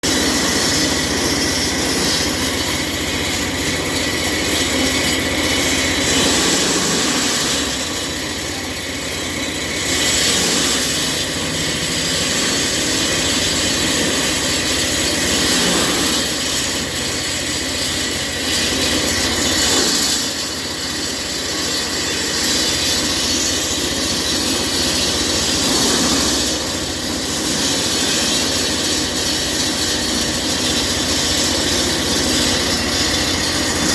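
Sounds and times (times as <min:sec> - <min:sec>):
concrete saw blade whining: 0:00.0 - 0:33.9.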